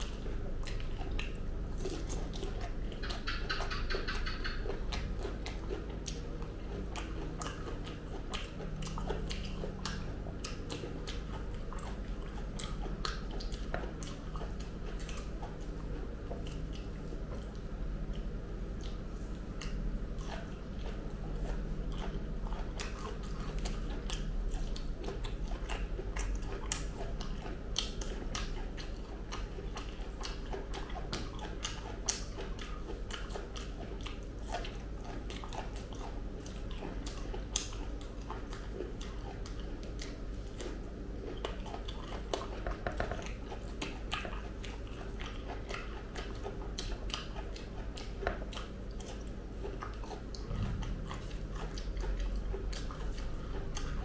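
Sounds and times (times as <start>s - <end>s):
chewing and biting fruit: 0.0s - 54.0s
wet mouth clicks and smacks: 0.0s - 54.0s.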